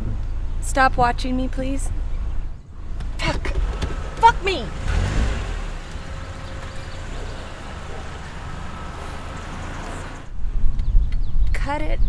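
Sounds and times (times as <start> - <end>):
low car engine rumble: 0.0 - 10.6
street noise: 0.0 - 11.2.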